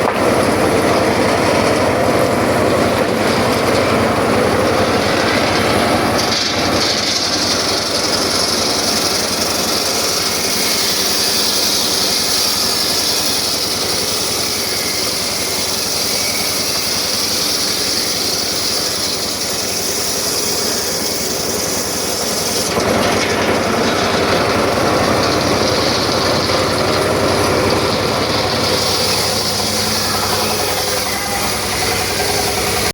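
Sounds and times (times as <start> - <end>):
circular saw running: 0.0 - 32.9
saw blade hissing in wood: 3.3 - 32.9.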